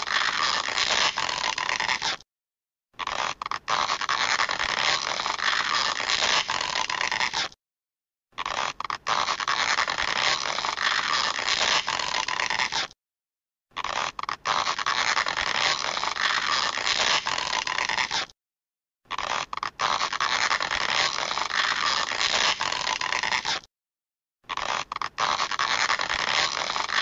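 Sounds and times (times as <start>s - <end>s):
strained stretching sound: 0.0s - 2.2s, 3.0s - 7.6s, 8.4s - 13.0s, 13.7s - 18.4s, 19.1s - 23.7s, 24.5s - 27.0s.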